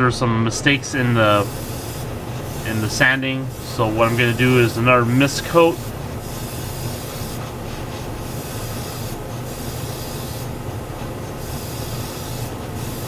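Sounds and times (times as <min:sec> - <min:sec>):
steady low hum: 0:00.0 - 0:13.0
airbrush spraying hiss: 0:00.7 - 0:13.0.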